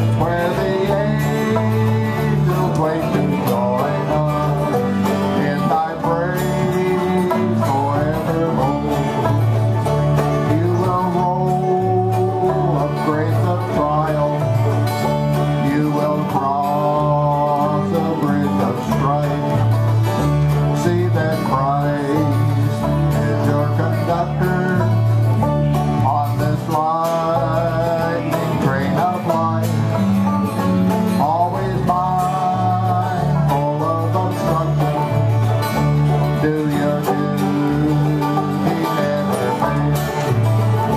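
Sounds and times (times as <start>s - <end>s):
acoustic guitar: 0.0s - 40.9s
banjo: 0.0s - 40.9s
electric bass walking: 0.0s - 40.9s.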